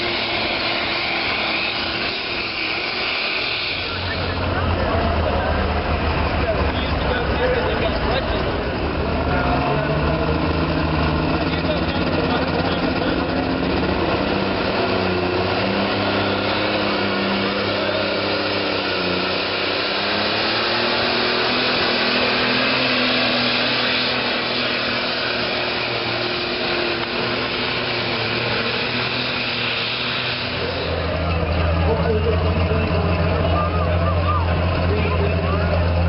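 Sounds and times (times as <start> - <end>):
diesel engine screaming: 0.0 - 36.0.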